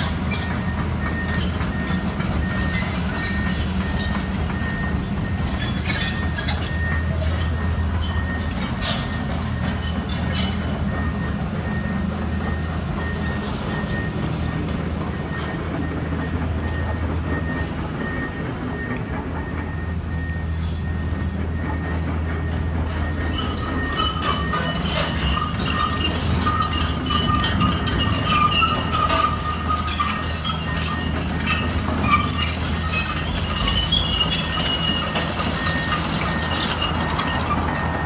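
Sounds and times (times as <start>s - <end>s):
diesel engine low hum: 0.0s - 38.0s
squeaking excavator tracks: 0.0s - 38.0s.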